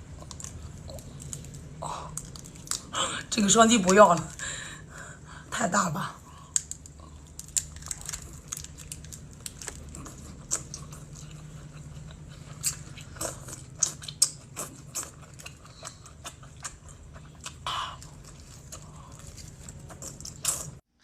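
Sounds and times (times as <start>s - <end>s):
chewing and crunching seafood: 0.0s - 5.4s, 6.2s - 20.9s
steady low hum: 0.0s - 21.0s.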